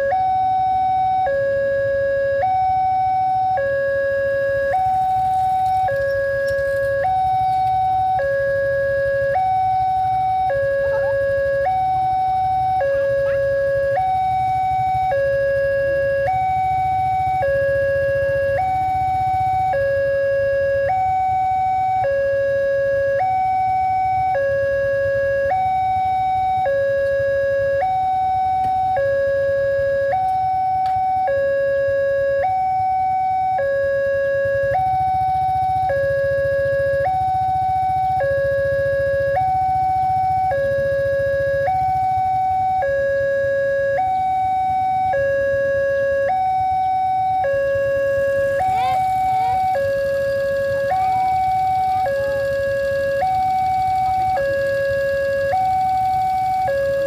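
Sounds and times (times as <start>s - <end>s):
low traffic rumble: 0.0s - 57.0s
two-tone crossing alarm: 0.0s - 57.0s.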